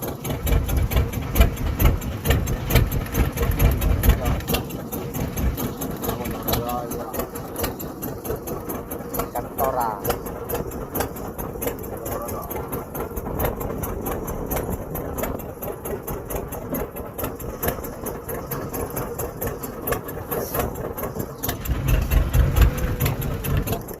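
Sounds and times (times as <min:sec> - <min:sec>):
boat engine idling clatter: 0:00.0 - 0:24.0
heavy low rumble: 0:00.3 - 0:24.0.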